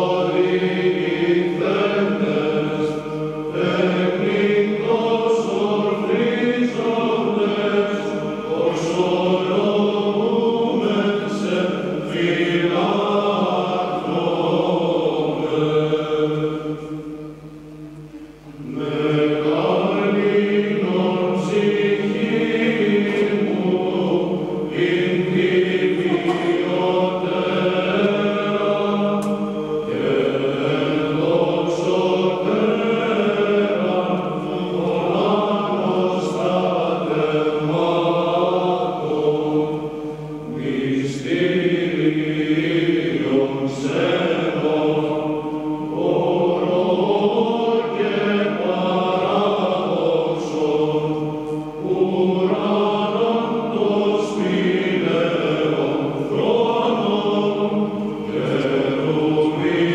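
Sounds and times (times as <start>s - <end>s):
men's choir chanting unaccompanied: 0.0s - 17.6s, 18.5s - 59.9s.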